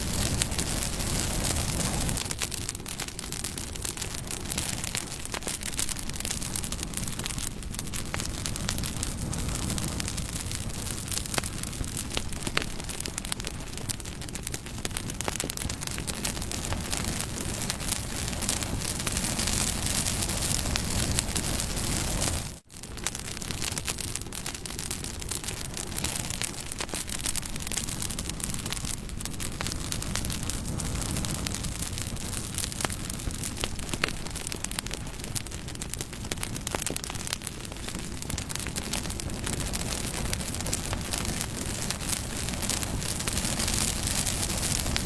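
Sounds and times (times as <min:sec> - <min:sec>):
bonfire crackling: 0:00.0 - 0:45.0.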